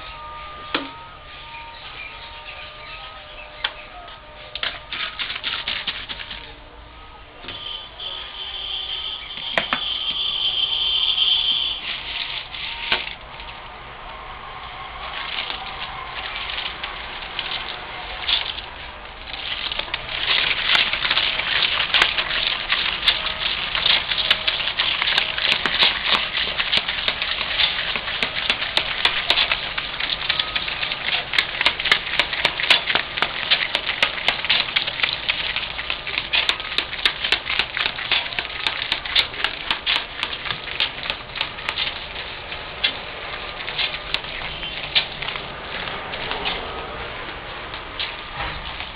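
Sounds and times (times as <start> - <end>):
pulley machine running: 0.0 - 6.7, 7.4 - 48.9
fast dense clicking and crackling: 4.6 - 6.5, 9.4 - 48.9.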